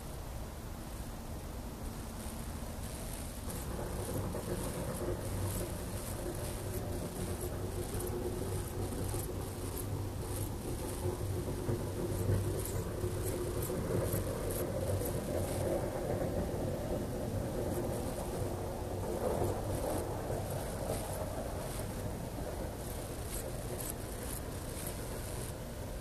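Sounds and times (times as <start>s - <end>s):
low rumble with deep hum: 1.9s - 26.0s.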